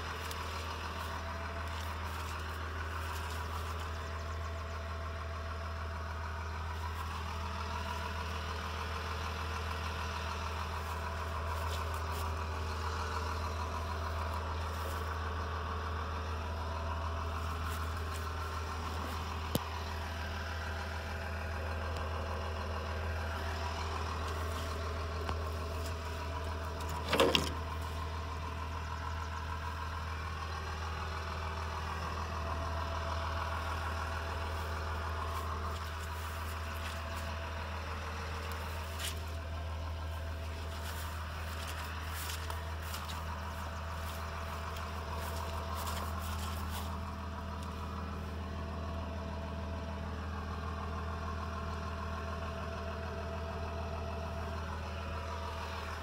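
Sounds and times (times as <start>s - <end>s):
diesel tractor engine idling: 0.0s - 56.0s.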